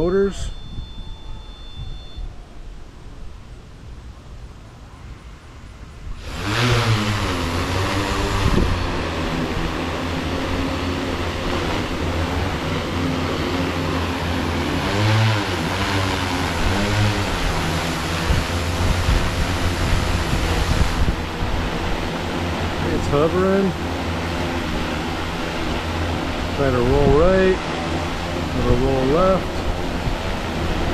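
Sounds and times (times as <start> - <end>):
drone motors and propellers whirring: 0.0 - 2.9, 5.1 - 30.9.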